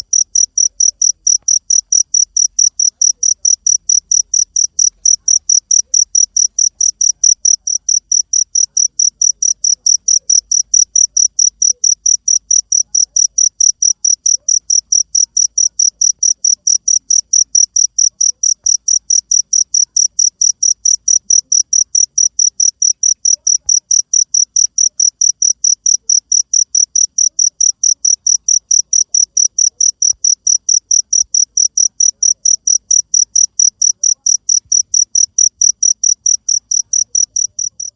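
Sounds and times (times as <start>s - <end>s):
cricket chirping: 0.0s - 37.9s.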